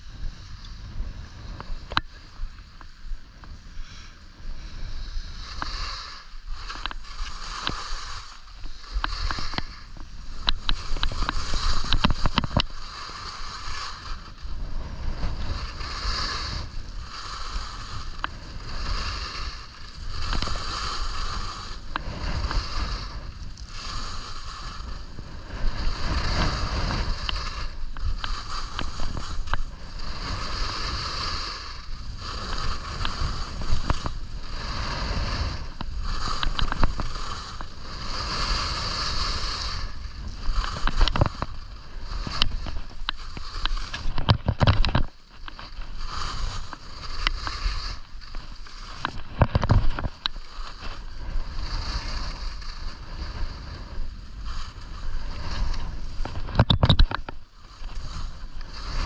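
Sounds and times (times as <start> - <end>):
skis scraping over packed snow: 0.0 - 59.0
wind rumble on microphone: 0.0 - 59.0.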